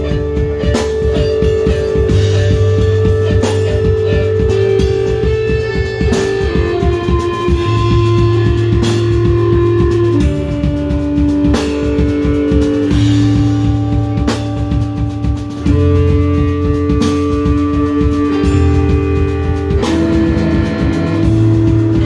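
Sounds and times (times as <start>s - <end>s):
drum beat: 0.0s - 22.0s
electric bass guitars: 0.0s - 22.0s.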